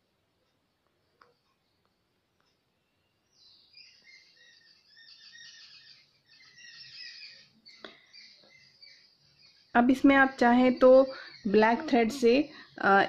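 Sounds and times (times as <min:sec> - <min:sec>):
birds chirping: 0:01.1 - 0:13.0.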